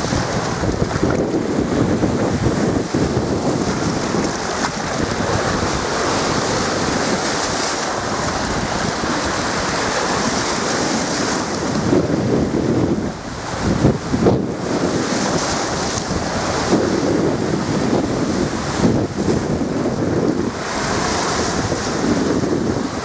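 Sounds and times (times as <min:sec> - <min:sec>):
small waves breaking on shore: 0:00.0 - 0:23.0
wind buffeting microphone: 0:00.0 - 0:23.0.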